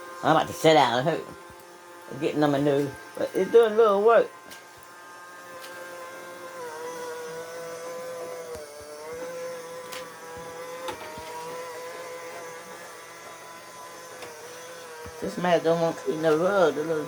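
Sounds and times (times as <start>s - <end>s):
robot vacuum motor whine: 0.0s - 17.0s.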